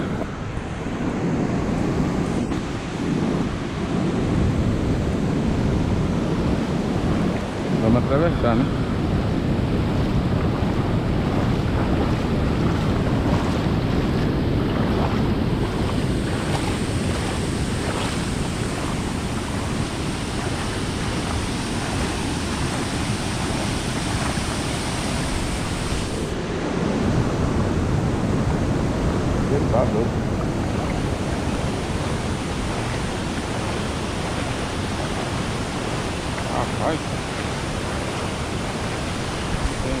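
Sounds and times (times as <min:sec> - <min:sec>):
floodwater rushing: 0:00.0 - 0:40.0.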